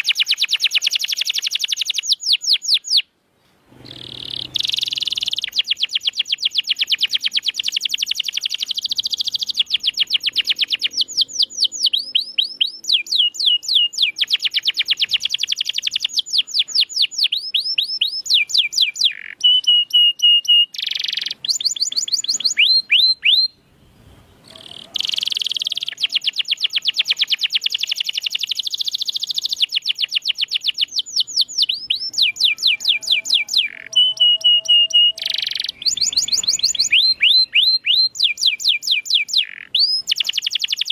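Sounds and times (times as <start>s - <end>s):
canary singing trills: 0.0s - 3.1s, 3.7s - 40.9s.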